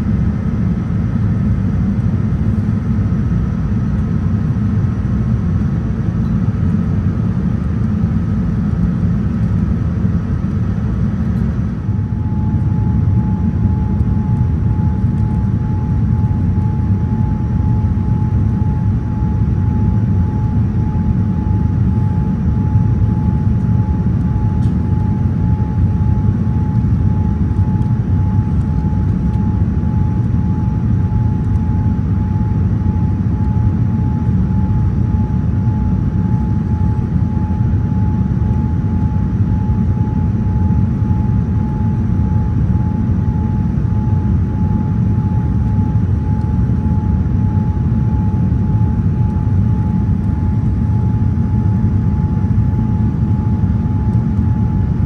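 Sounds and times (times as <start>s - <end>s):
thin steady whine: 0.0s - 55.0s.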